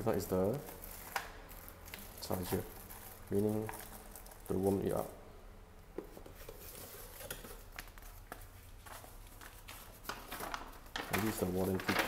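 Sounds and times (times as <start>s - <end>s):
plastic wrapping rustling: 0.0s - 5.2s, 6.1s - 12.0s
low steady hum: 0.0s - 11.8s.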